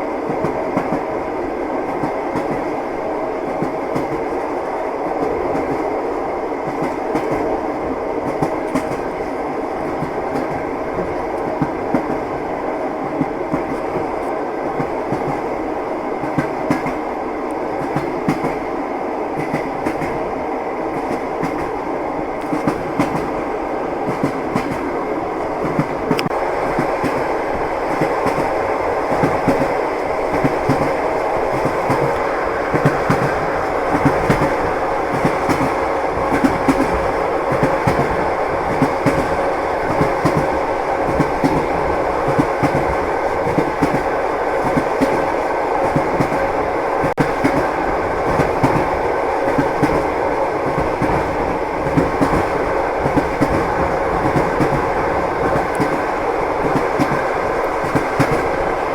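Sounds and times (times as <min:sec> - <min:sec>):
train wheels clickety-clack: 0:00.0 - 0:58.9.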